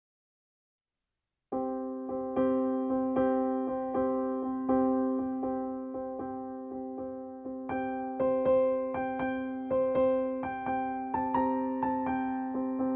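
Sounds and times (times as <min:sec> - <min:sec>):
gentle piano music: 0:01.6 - 0:12.9.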